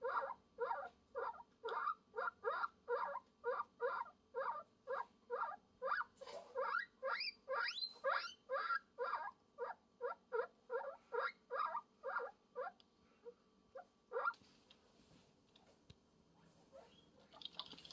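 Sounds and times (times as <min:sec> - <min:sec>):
guinea pig squeaking: 0:00.0 - 0:12.8, 0:13.7 - 0:14.4, 0:16.7 - 0:17.9.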